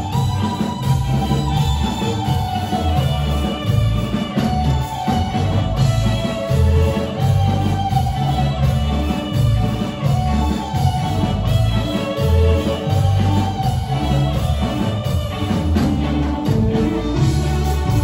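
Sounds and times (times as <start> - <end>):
live band music: 0.0 - 18.0.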